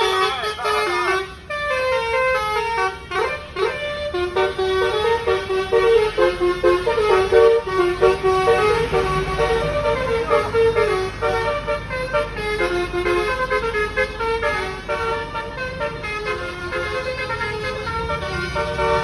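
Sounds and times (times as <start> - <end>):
bus engine idling: 0.0 - 19.0
multi-tone bus horn melody: 0.0 - 19.0.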